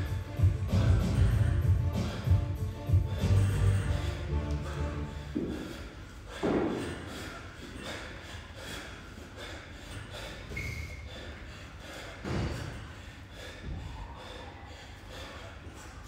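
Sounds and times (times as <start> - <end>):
man breathing heavily: 0.0 - 16.0.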